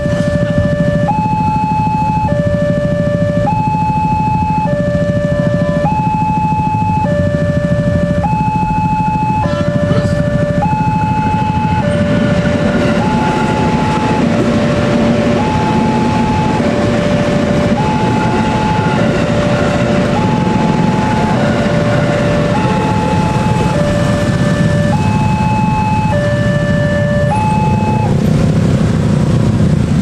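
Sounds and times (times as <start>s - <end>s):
two-tone crossing alarm: 0.0s - 28.2s
electric train passing: 0.0s - 30.0s.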